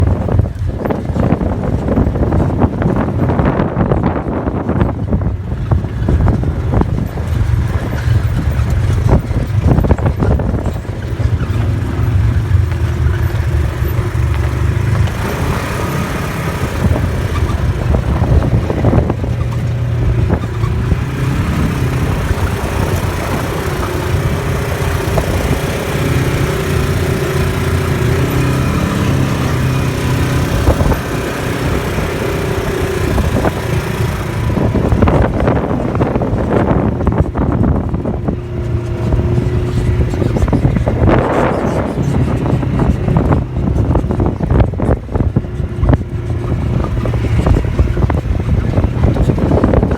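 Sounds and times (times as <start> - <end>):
vehicle engine revving: 0.0 - 49.9.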